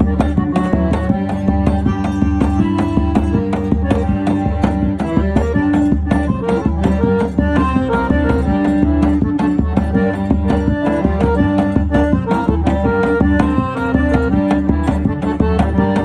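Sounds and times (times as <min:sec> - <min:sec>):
held melody notes: 0:00.0 - 0:16.0
quick percussion beat: 0:00.0 - 0:16.0.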